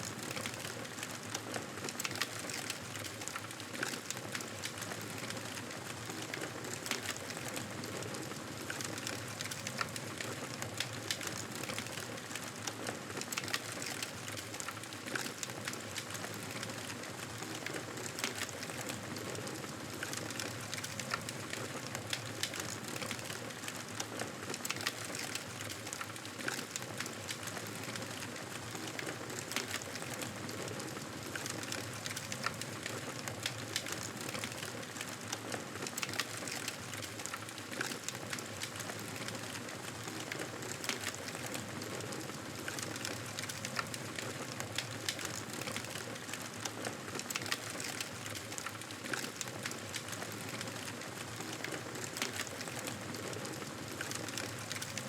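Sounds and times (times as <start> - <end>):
fire crackling in fireplace: 0.0 - 55.0.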